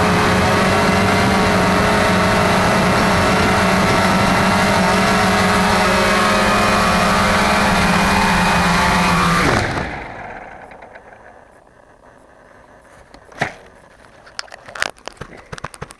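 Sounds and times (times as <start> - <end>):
drone propellers whining: 0.0 - 14.4.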